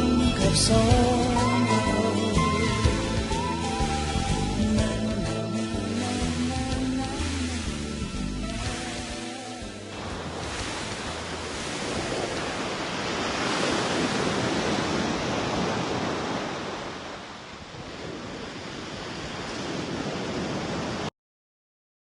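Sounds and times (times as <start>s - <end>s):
ocean waves washing in: 0.0s - 21.1s.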